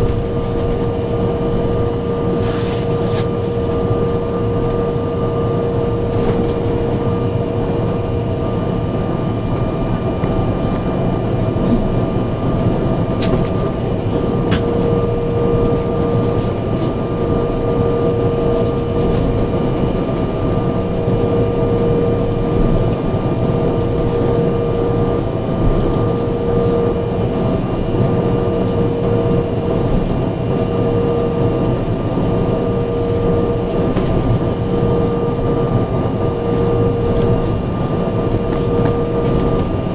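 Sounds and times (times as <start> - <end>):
jet engine drone in cabin: 0.0 - 39.9
whining tones: 0.0 - 39.9.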